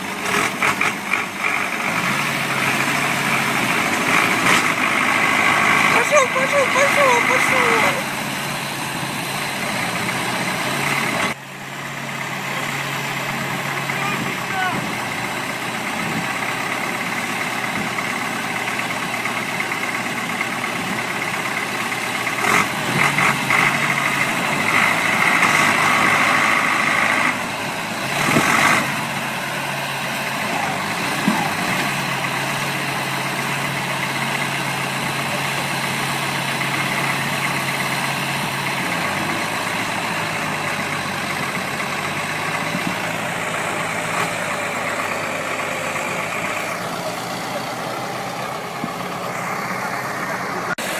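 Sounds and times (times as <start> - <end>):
heavy vehicle engine running: 0.0 - 50.9.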